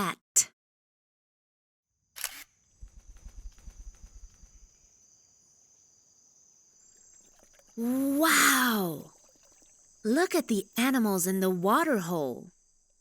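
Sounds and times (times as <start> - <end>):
crickets chirring: 2.5 - 13.0.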